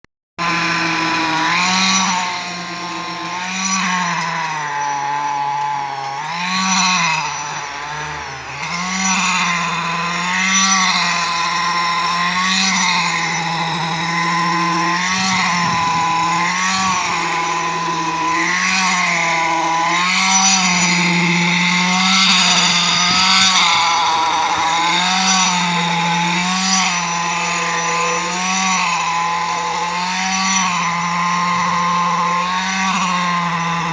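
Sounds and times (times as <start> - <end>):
concrete vibrator running: 0.4 - 33.9.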